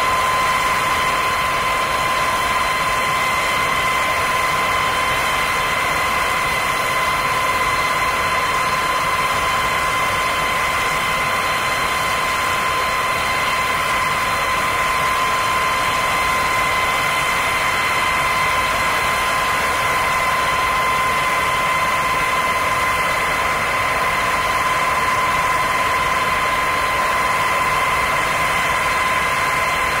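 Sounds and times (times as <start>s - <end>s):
high-pitched whine: 0.0s - 30.0s
turbine engine drone: 0.0s - 30.0s.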